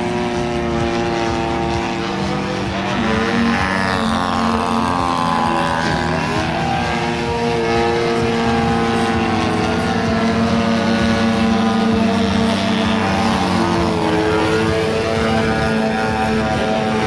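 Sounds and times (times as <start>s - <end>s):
model plane engine and propeller: 0.0s - 17.0s.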